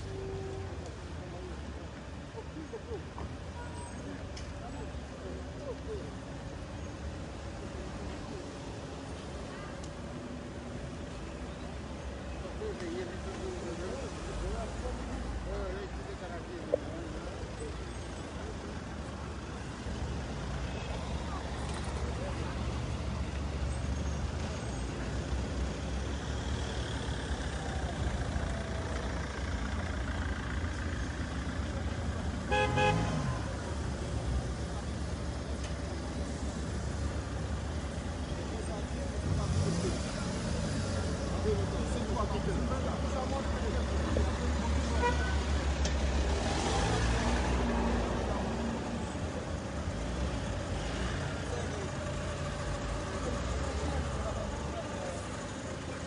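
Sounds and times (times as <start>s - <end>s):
vehicle engine idling: 0.0s - 46.4s
street noise: 0.0s - 56.0s.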